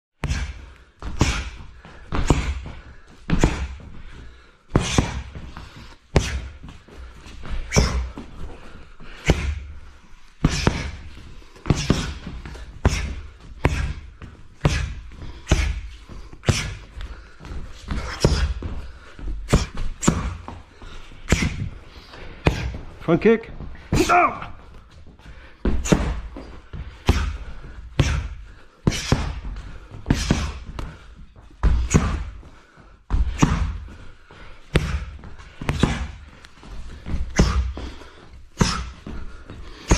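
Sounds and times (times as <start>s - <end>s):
boxing gloves slapping pads: 0.2s - 4.0s, 4.7s - 8.3s, 9.0s - 9.8s, 10.4s - 22.9s, 25.6s - 32.4s, 33.1s - 34.0s, 34.7s - 39.9s.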